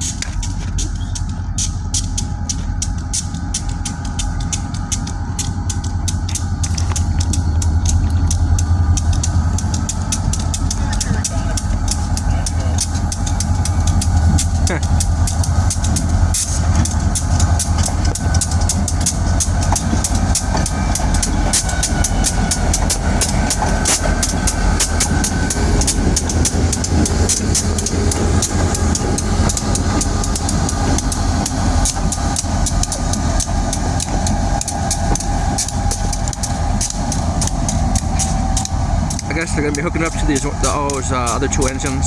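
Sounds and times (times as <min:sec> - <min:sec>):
locomotive engine rumble: 0:00.0 - 0:42.0.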